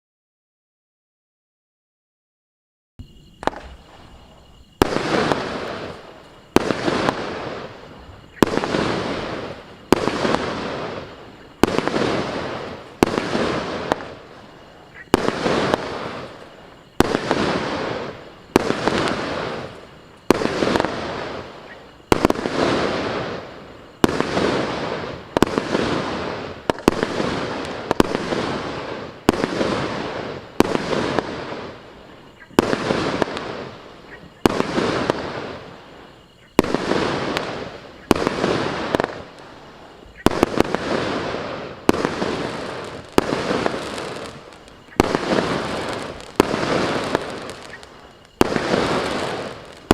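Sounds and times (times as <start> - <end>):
fireworks bangs: 3.0 - 49.9.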